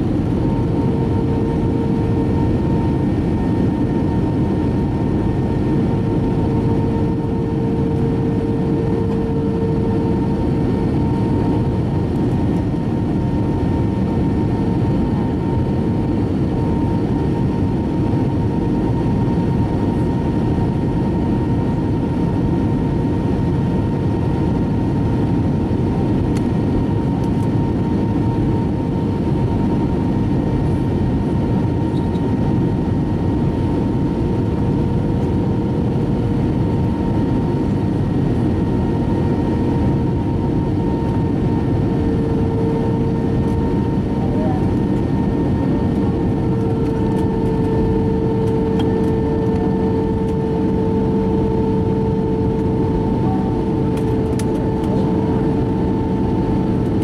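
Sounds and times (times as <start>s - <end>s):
airliner engine rumble: 0.0s - 57.0s.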